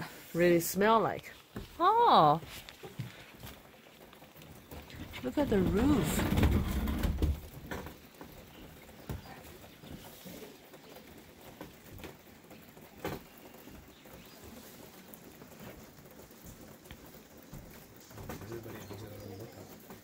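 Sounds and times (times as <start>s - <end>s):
rain pattering on roof tiles: 0.0s - 20.0s.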